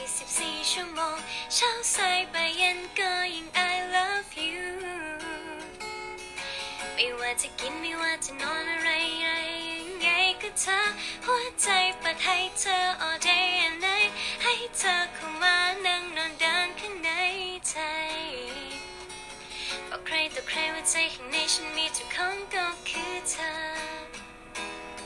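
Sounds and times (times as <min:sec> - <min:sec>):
woman singing with vibrato: 0:00.0 - 0:05.7, 0:07.0 - 0:18.8, 0:19.9 - 0:24.0
strummed acoustic guitar: 0:00.0 - 0:25.0.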